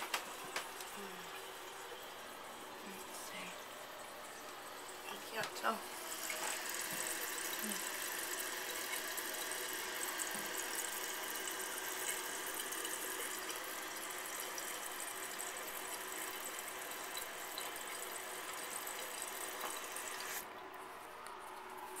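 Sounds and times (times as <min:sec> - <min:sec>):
toilet tank refilling hiss: 0:00.0 - 0:20.5
water running into overflow tube: 0:00.0 - 0:22.0.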